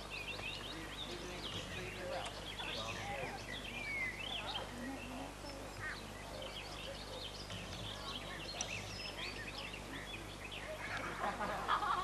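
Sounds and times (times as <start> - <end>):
wild birds chirping and trilling: 0.0 - 12.0.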